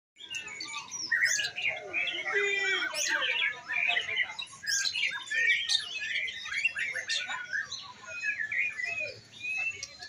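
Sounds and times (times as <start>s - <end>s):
songbirds chirping and whistling: 0.2s - 10.0s.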